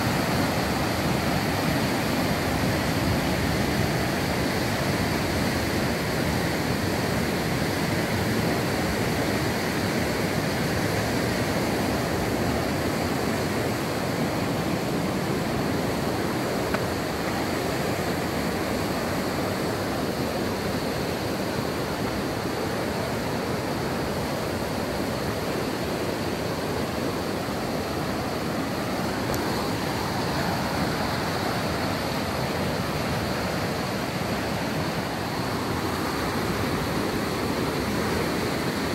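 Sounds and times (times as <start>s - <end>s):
water rushing through rapids: 0.0s - 38.9s.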